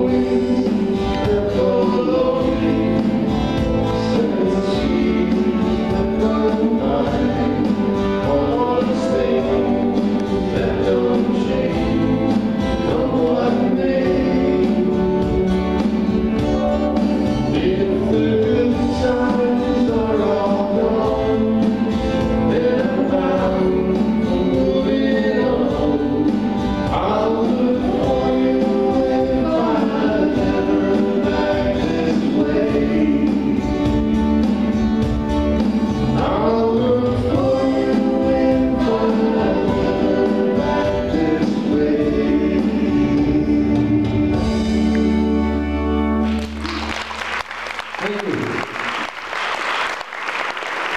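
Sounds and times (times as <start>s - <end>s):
person singing: 0.0s - 34.1s, 36.1s - 45.7s
live band playing folk song: 0.0s - 50.9s.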